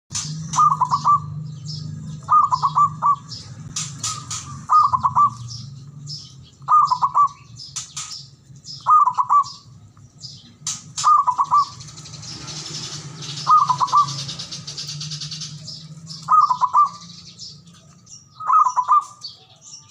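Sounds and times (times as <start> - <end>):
small birds chirping: 0.1 - 19.9
dove cooing: 0.2 - 8.1, 8.8 - 9.7, 10.6 - 19.6.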